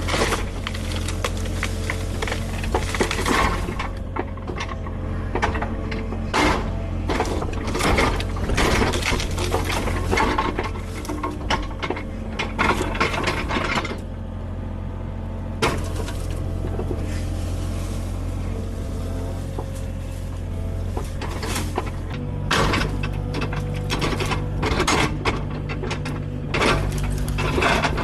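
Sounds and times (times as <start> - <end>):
branches cracking and snapping: 0.0 - 14.1, 15.6 - 28.0
diesel excavator running: 0.0 - 28.0.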